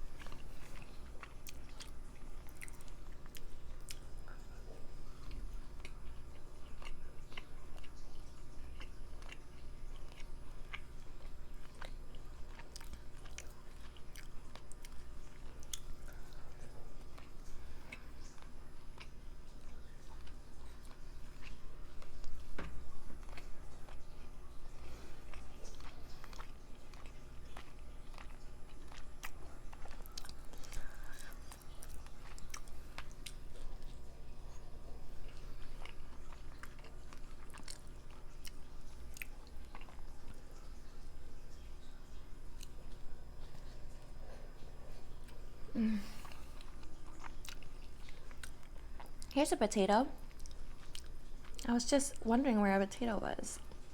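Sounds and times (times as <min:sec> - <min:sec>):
chewing soft food: 0:00.0 - 0:53.9.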